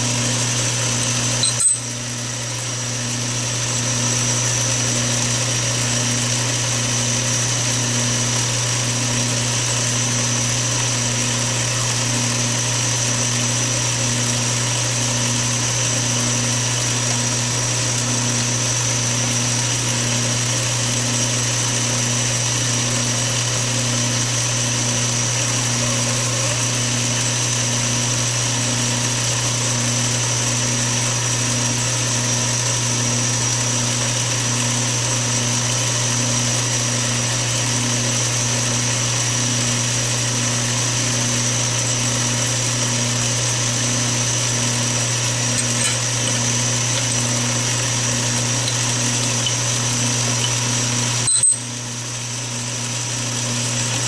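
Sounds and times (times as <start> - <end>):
metal lathe humming with whine: 0.0 - 54.0.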